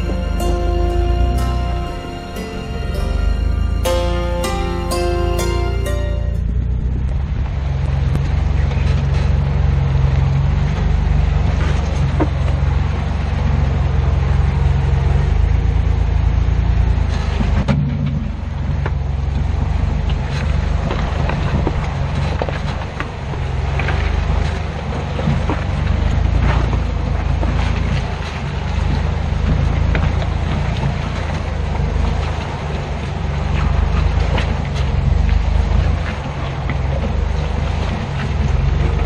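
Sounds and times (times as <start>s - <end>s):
engine running under load: 0.0s - 39.0s.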